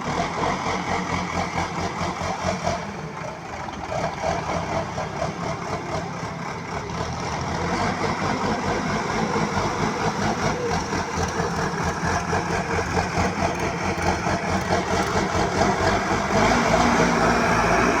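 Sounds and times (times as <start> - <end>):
diesel engine pulsing rumble: 0.0 - 18.0.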